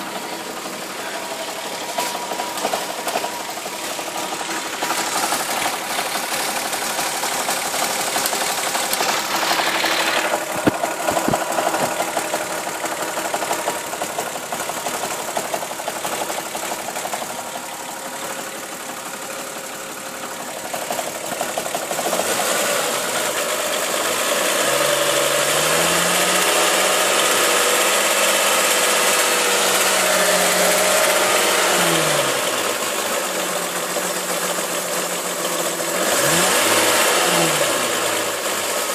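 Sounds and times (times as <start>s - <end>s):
car engine running and revving: 0.0s - 38.9s.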